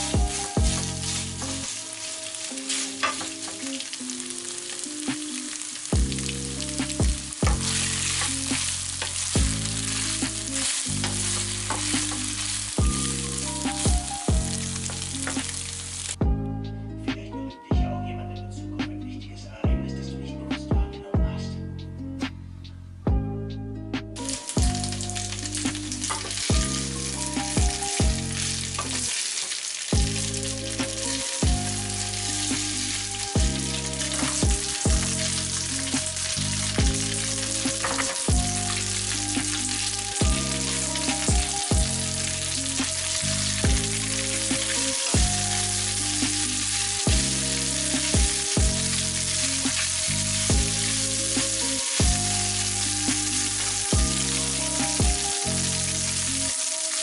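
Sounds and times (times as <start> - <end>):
spaghetti sizzling in a pan: 0.0 - 16.2, 24.2 - 57.0
background music with a beat: 0.0 - 29.1, 29.9 - 57.0.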